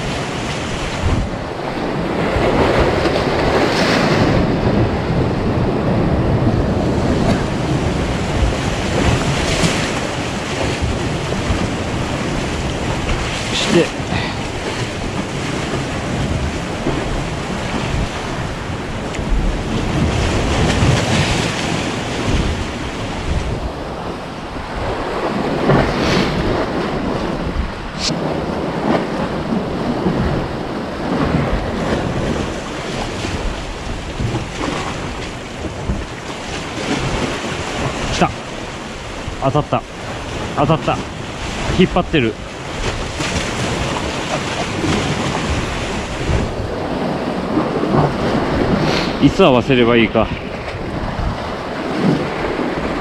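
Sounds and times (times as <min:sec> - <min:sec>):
sea waves splashing on concrete blocks: 0:00.0 - 0:53.0
wind buffeting microphone: 0:00.0 - 0:53.0.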